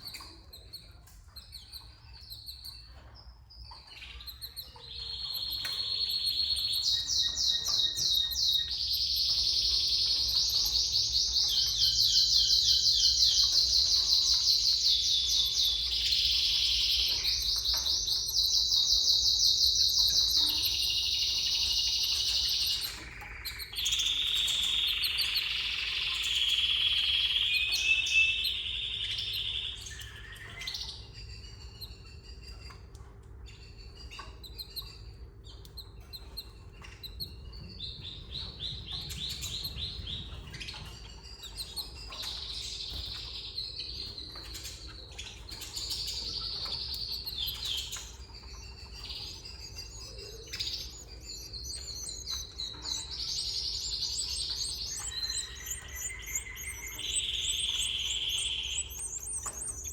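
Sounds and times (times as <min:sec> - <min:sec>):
canaries chirping and trilling: 0:00.0 - 0:59.9.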